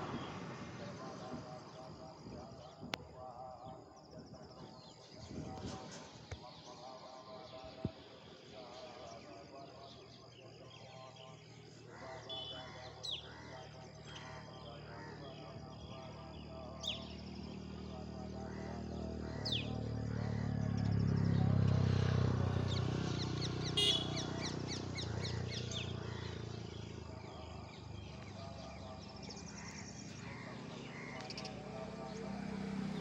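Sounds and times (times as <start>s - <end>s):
low engine rumble: 0.0s - 33.0s
sparrows chirping: 0.0s - 33.0s.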